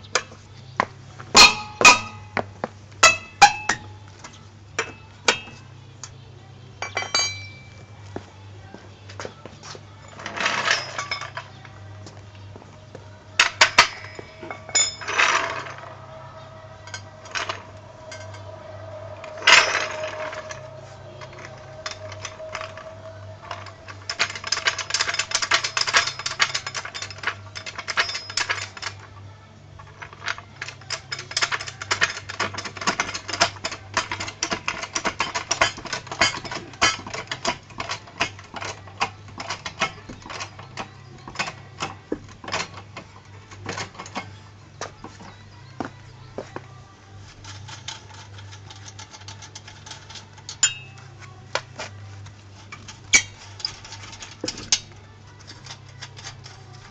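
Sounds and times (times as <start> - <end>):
metal clanks: 0.0 - 6.2, 6.8 - 8.0, 10.0 - 11.8, 13.0 - 29.1, 29.8 - 46.7, 47.3 - 56.9.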